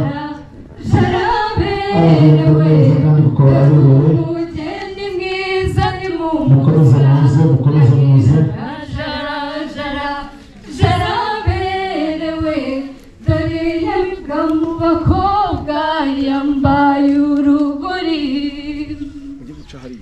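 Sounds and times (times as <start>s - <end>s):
woman singing unaccompanied: 0.0s - 19.4s.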